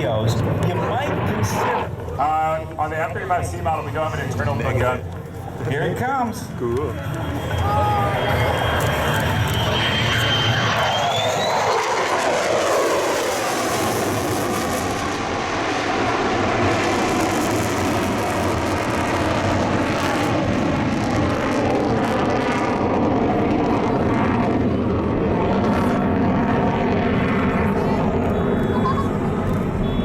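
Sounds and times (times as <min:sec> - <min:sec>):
jet engine passing: 0:00.0 - 0:30.0.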